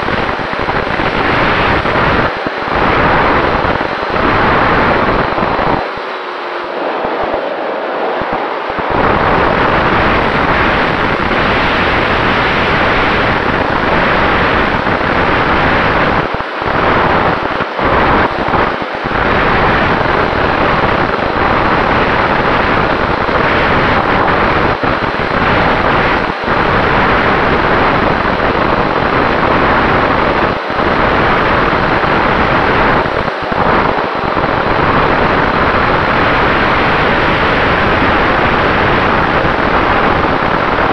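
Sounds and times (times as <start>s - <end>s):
loud wind noise on microphone: 0.0s - 40.9s.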